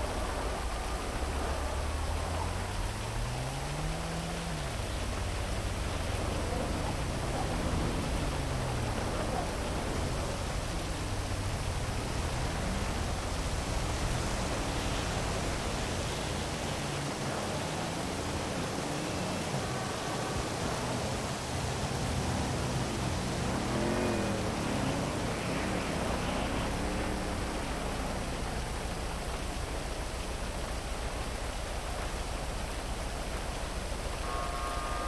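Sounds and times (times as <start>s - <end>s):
heavy rain falling: 0.0s - 35.0s
traffic rumble: 0.0s - 35.0s
vehicles passing: 0.0s - 35.0s.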